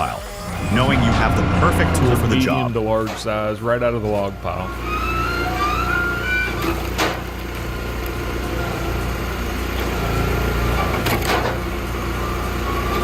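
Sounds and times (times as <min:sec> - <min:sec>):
log splitter engine running: 0:00.0 - 0:13.0.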